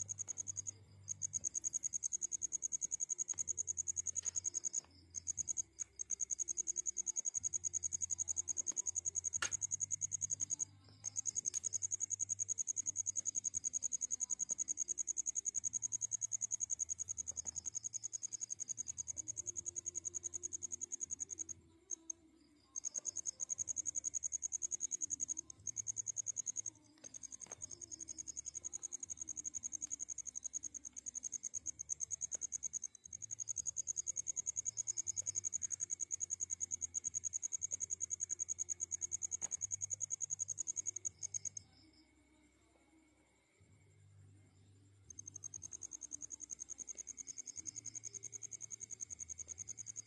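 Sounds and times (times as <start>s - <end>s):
cricket trilling: 0.0s - 43.6s, 44.6s - 50.0s.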